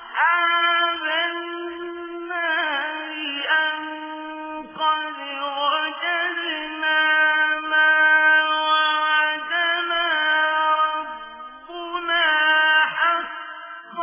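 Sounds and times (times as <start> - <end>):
person chanting melodically: 0.0 - 14.0.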